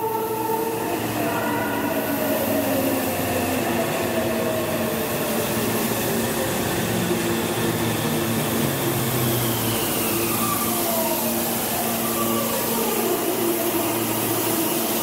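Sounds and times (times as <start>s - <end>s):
electric train motors whining: 0.0s - 15.0s.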